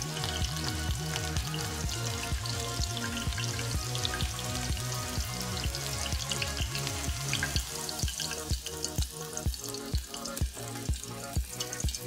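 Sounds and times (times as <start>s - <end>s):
background music with beat: 0.0s - 12.0s
hot oil sizzling: 0.0s - 12.0s.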